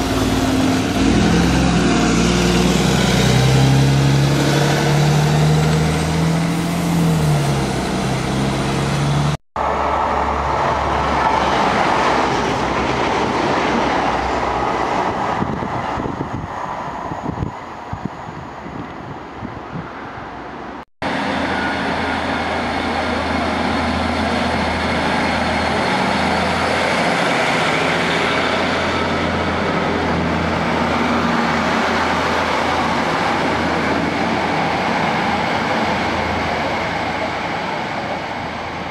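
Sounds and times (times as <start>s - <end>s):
diesel train engine drone: 0.0s - 38.9s.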